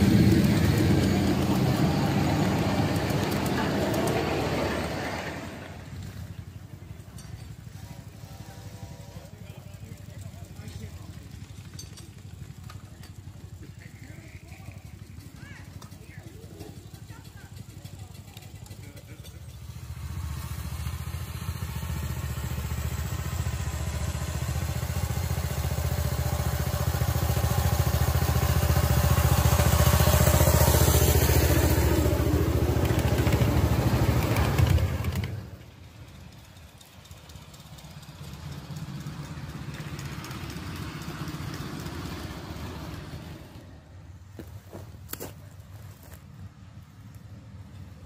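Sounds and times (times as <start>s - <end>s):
miniature train rumbling: 0.0s - 48.0s.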